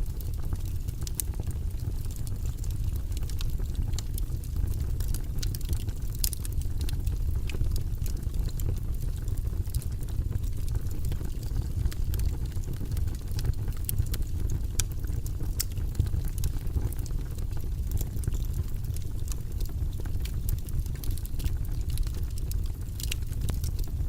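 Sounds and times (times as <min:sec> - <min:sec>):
fire crackling and popping: 0:00.0 - 0:24.0
fire flames rumbling: 0:00.0 - 0:24.0.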